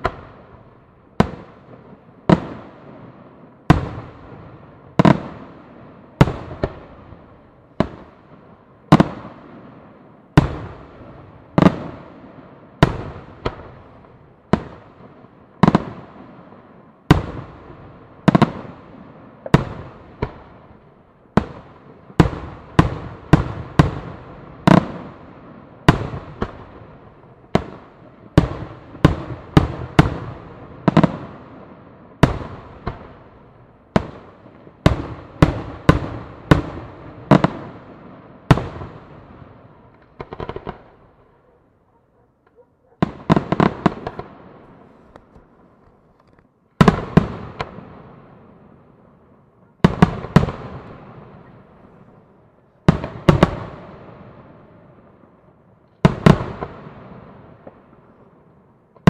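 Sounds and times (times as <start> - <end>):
fireworks bursting: 0.0 - 41.6, 42.4 - 58.2.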